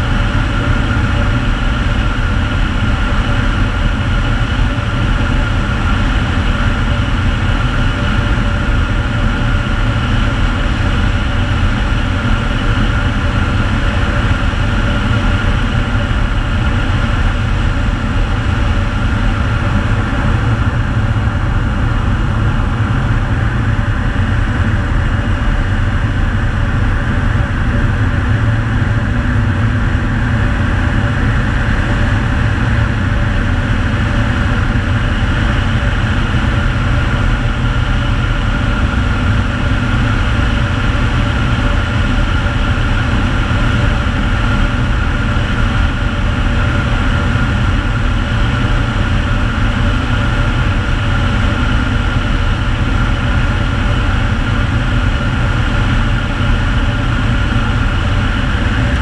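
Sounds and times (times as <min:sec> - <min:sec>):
turboprop engine and propeller drone: 0:00.0 - 0:59.0.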